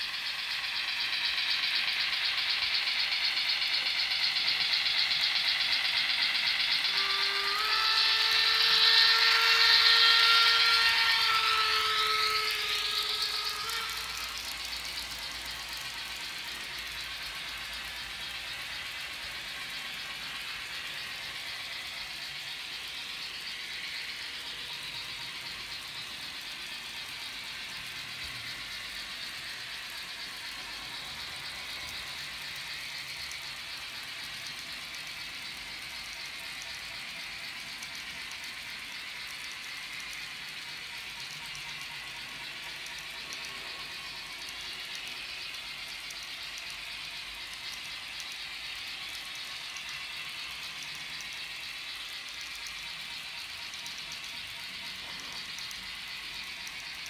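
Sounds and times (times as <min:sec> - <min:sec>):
model train rattling on track: 0:00.0 - 0:57.0.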